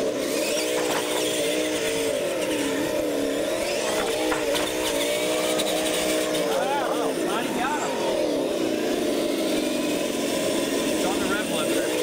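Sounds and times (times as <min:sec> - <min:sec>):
toy truck electric motors whining: 0:00.0 - 0:12.0.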